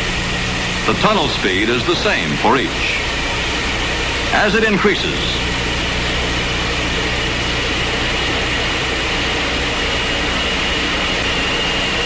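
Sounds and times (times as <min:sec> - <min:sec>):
faint high whine: 0:00.0 - 0:12.0
low hum: 0:00.0 - 0:12.0.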